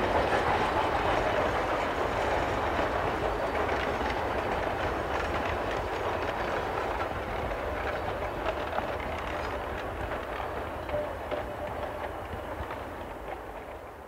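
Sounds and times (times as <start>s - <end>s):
train coaches rumbling past: 0.0s - 14.0s.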